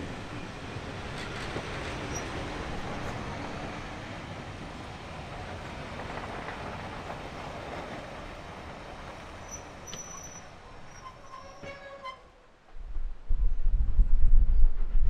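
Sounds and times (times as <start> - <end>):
steam train rumbling on rails: 0.0 - 12.9.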